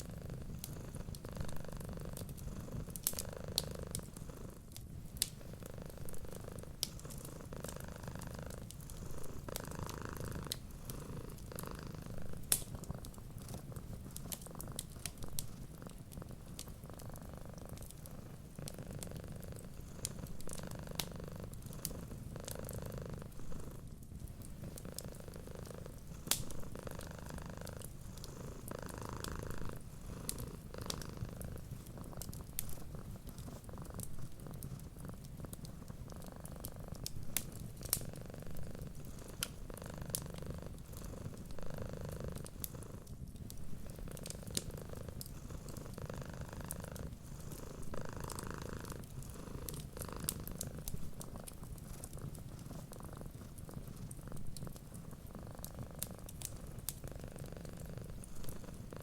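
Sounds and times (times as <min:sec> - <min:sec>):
cat purring: 0:00.0 - 0:59.0
wood fire crackling: 0:00.0 - 0:59.0.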